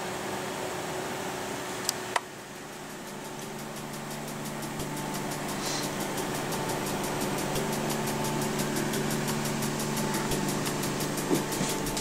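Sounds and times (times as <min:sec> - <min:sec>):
computer cooling fans whirring: 0:00.0 - 0:12.0.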